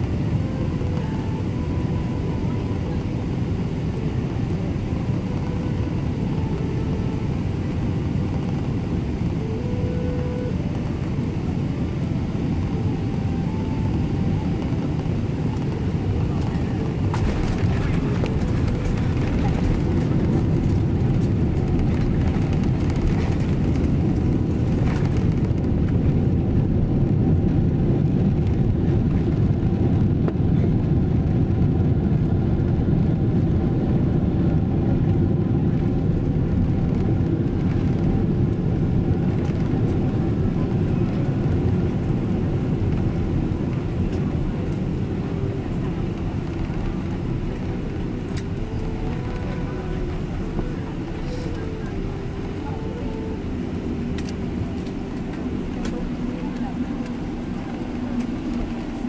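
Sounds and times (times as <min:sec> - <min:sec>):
aircraft cabin rumble: 0:00.0 - 0:59.0
faint whine: 0:00.0 - 0:59.0.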